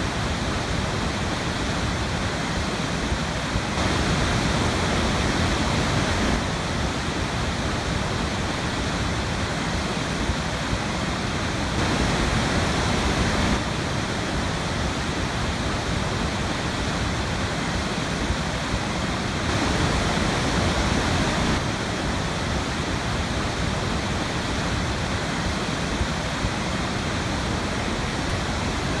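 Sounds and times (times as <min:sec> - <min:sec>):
waterfall rushing water: 0:00.0 - 0:29.0.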